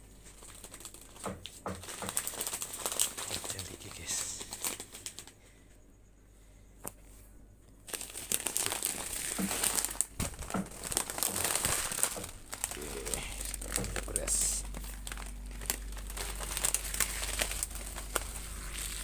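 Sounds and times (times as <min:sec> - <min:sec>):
plastic crinkling: 0:00.0 - 0:05.4, 0:07.8 - 0:19.0.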